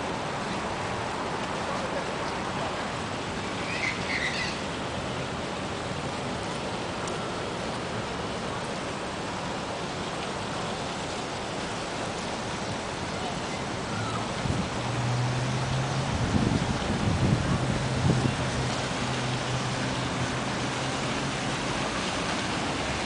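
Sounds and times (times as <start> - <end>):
fountain water rushing: 0.0 - 23.0.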